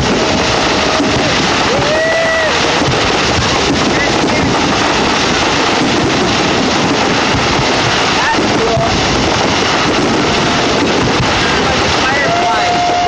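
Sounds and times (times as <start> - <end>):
crowd chatter: 0.0 - 13.0
wind on microphone: 0.0 - 13.0.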